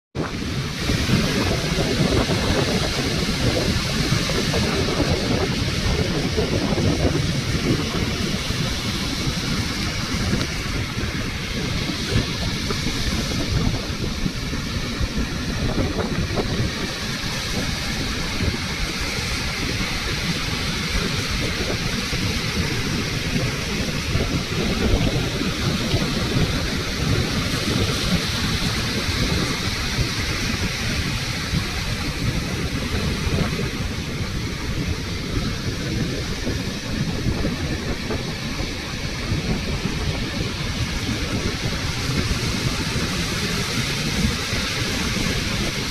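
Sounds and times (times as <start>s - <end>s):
waves breaking on beach: 0.2s - 45.9s
wind buffeting microphone: 0.2s - 45.9s.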